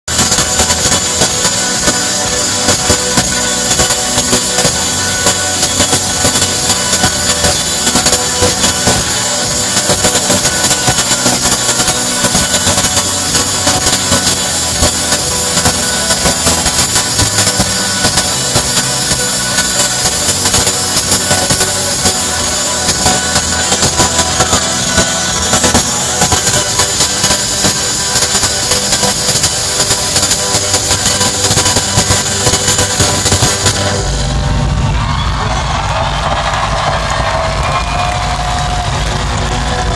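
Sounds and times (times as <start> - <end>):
drums steady beat: 0.0 - 39.9
live rock band playing: 0.1 - 35.4.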